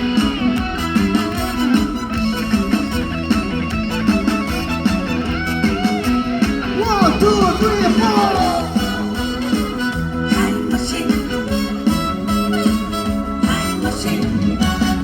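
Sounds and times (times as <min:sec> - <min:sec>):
guitar line: 0:00.0 - 0:15.0
live band playing: 0:00.0 - 0:15.0
steady beat: 0:00.0 - 0:15.0.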